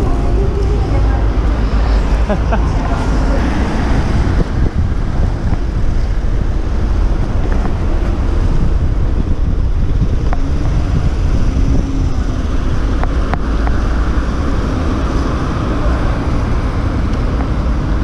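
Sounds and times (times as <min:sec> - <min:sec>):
road noise: 0:00.0 - 0:18.0
wind rumble on microphone: 0:00.0 - 0:18.0.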